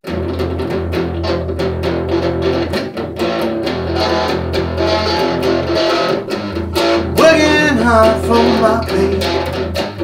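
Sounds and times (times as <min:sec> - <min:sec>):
electric guitar playing: 0:00.0 - 0:10.0.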